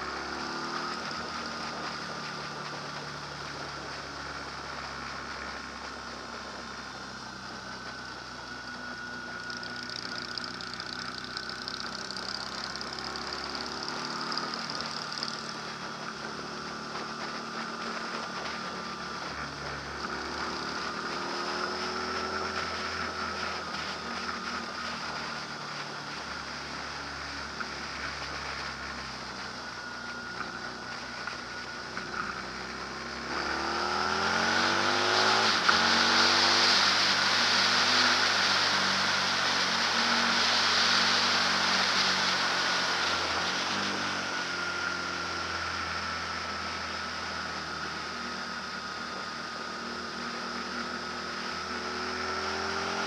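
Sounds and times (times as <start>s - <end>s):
engine running: 0.0s - 53.0s
faint wavering whine: 0.0s - 53.0s.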